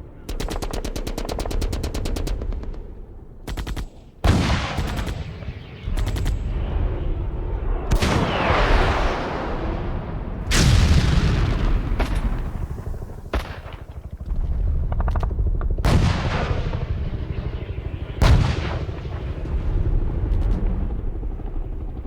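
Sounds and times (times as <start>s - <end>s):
distant gunfire rumble: 0.2s - 7.2s, 7.9s - 22.0s
artillery blasts with rumbles: 3.9s - 22.0s.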